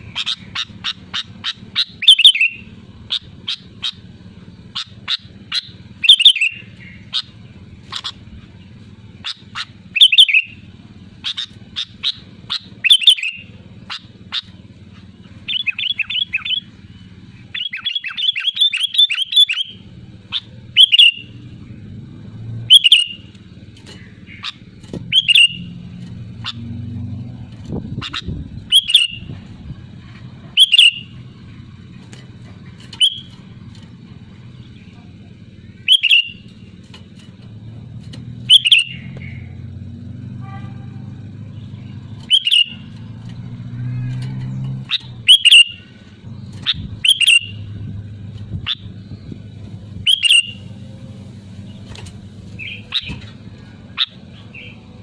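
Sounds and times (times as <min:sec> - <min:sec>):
bulbul calling: 0:00.0 - 0:21.8, 0:22.5 - 0:39.8, 0:40.4 - 0:43.4, 0:44.0 - 0:55.0
steady low hum: 0:00.0 - 0:55.0.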